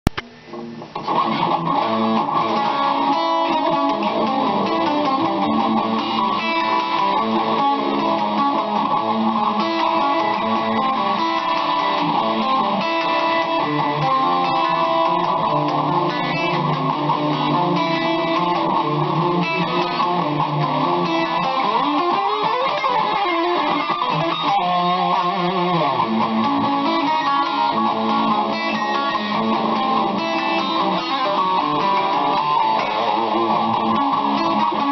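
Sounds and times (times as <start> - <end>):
electric guitar riffs and chords: 0.0 - 34.9.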